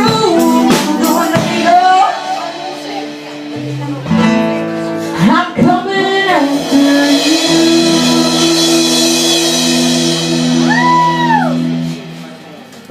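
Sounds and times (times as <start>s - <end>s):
guitar-led band music: 0.0s - 12.9s.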